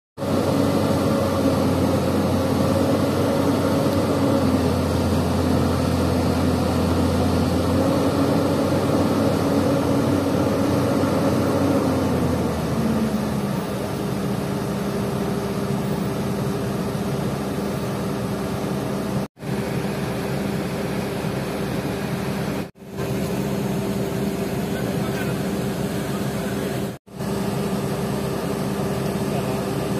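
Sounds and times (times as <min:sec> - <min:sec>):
excavator diesel engine under load: 0:00.2 - 0:29.9.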